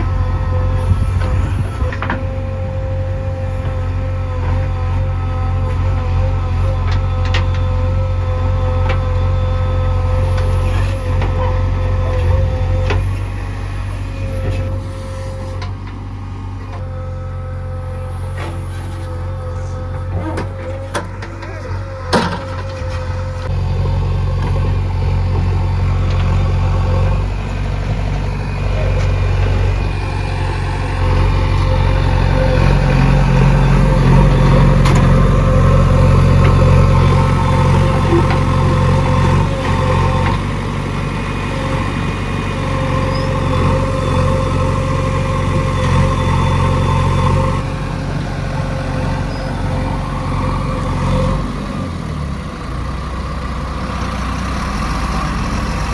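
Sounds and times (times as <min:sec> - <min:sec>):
heavy vehicle engine running: 0:00.0 - 0:55.9.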